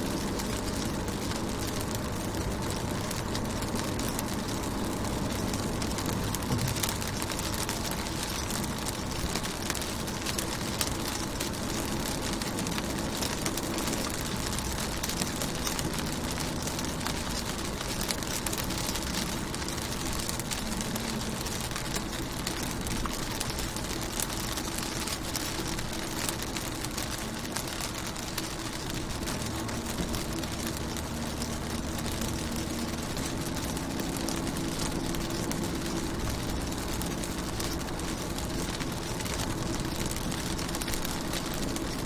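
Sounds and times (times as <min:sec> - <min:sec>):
rain on a car window: 0:00.0 - 0:42.0.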